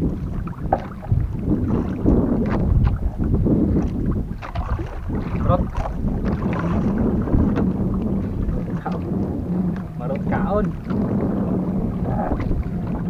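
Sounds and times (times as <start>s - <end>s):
knocks and splashes: 0.0s - 11.3s, 11.9s - 13.0s
water lapping against hull: 0.0s - 13.0s
wind buffeting microphone: 0.0s - 13.0s.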